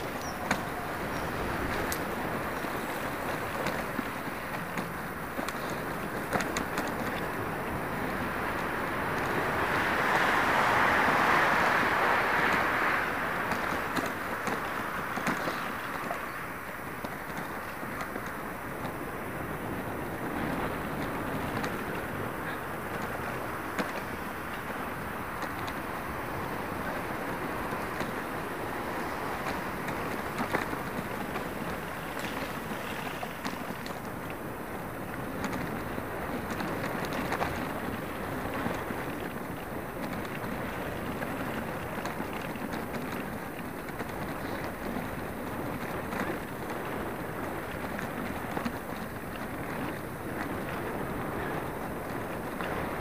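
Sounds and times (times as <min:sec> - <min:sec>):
bike rattling and knocking: 0:00.0 - 0:53.0
bike tyres crunching on gravel: 0:00.0 - 0:53.0.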